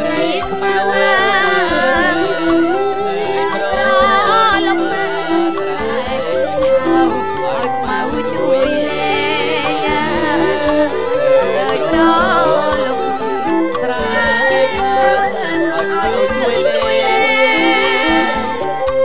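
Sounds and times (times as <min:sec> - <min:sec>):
instruments playing: 0:00.0 - 0:19.0
steady drum beat: 0:00.0 - 0:19.0
voices singing wavering melody: 0:00.0 - 0:19.0.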